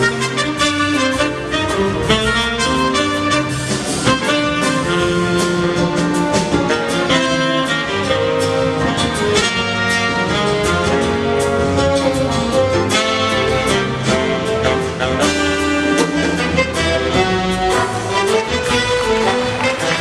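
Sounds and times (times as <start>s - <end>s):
saxophones and brass chords: 0.0s - 20.0s.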